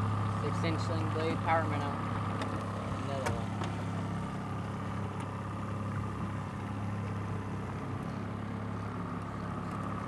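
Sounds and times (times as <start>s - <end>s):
outboard motor humming: 0.0s - 10.0s.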